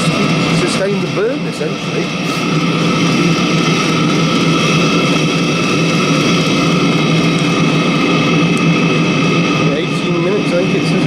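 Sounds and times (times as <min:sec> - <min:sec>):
air heater whirring with whine: 0:00.0 - 0:11.0.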